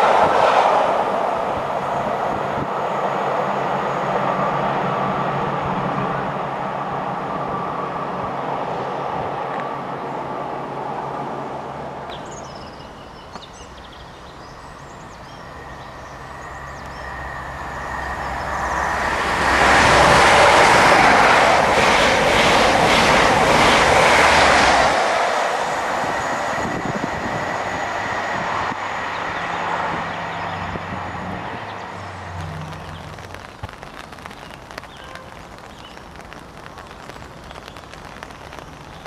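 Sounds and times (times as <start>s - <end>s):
train passing at speed: 0.0s - 33.6s.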